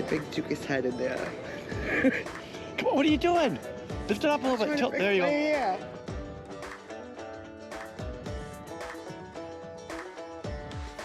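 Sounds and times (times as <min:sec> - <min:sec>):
plucked-string music over a beat: 0:00.0 - 0:11.0.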